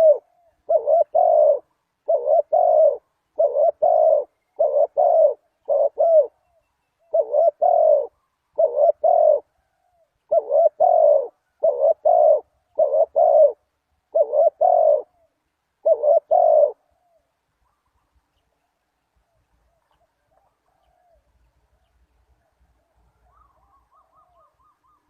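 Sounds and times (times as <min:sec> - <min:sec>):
dove cooing: 0:00.0 - 0:18.1, 0:19.6 - 0:21.4, 0:22.8 - 0:25.0.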